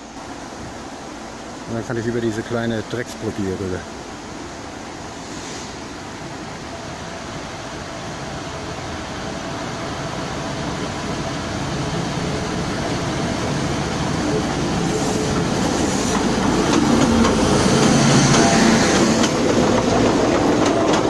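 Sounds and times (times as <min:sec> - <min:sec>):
diesel locomotive engine: 0:00.0 - 0:21.0
train wheels on track: 0:00.0 - 0:21.0.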